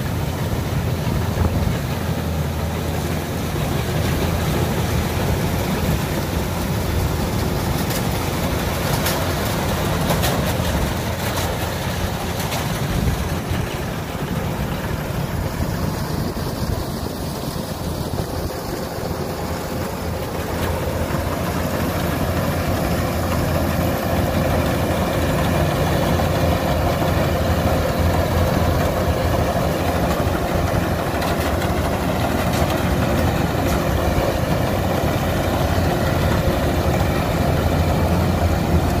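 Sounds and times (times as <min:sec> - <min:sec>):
combine harvester diesel engine: 0:00.0 - 0:39.0.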